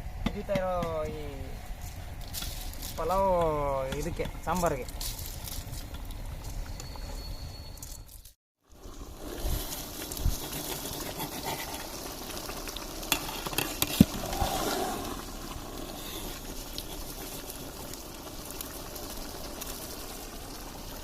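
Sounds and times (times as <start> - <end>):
rice pot bubbling and sizzling: 0.0 - 7.9, 8.6 - 21.0.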